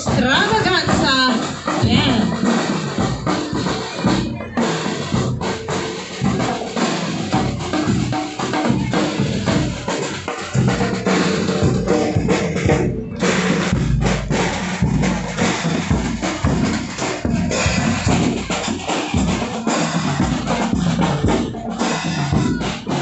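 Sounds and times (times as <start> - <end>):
bass and snare drums: 0.0 - 23.0
marching band playing: 0.0 - 23.0.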